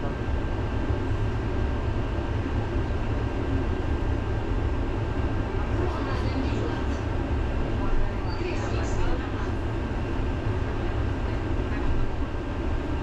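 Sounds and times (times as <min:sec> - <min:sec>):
tram wheels rumbling on rails: 0:00.0 - 0:13.0.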